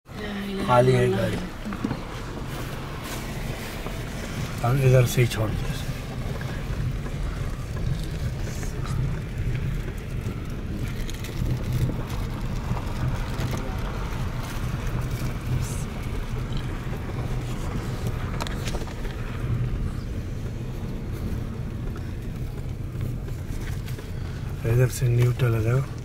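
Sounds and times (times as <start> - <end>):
car rolling on road: 0.1 - 26.0
tyre and road noise: 0.1 - 26.0.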